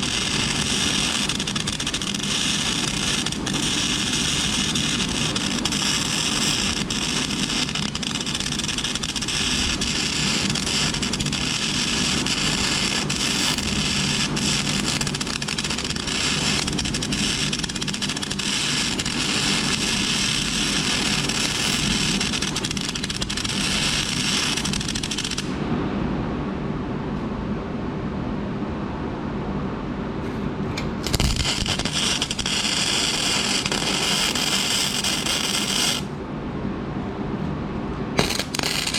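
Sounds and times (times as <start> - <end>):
welder hum: 0.0 - 25.6, 30.8 - 36.2, 38.2 - 38.9
welding arc crackling: 0.0 - 25.6, 31.0 - 36.1, 38.2 - 38.9.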